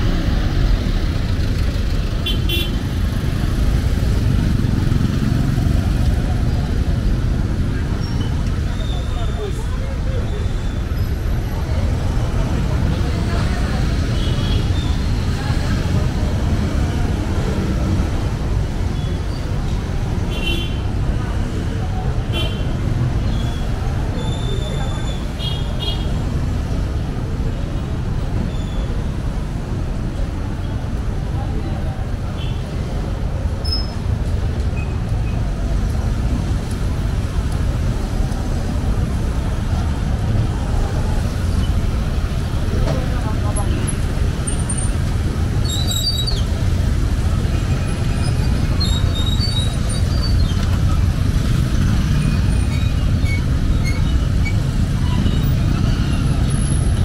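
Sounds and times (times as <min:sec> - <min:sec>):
motorcycle engines idling and pulling away: 0:00.0 - 0:57.0
rumble of passing vehicles: 0:00.0 - 0:57.0.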